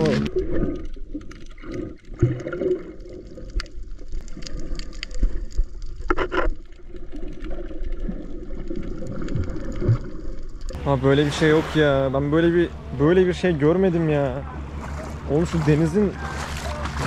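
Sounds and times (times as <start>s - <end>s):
water sloshing underwater: 0.0s - 17.0s.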